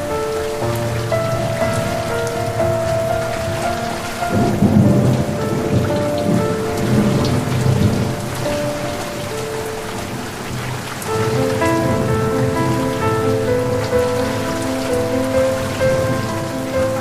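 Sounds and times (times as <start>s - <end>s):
steady rain falling: 0.0s - 17.0s
thunder rumbling: 0.0s - 17.0s.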